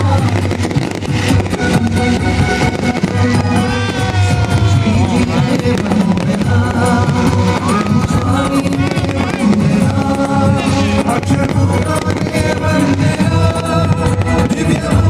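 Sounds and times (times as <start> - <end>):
fireworks banging and crackling: 0.0 - 15.0
loud music with low beat: 0.0 - 15.0.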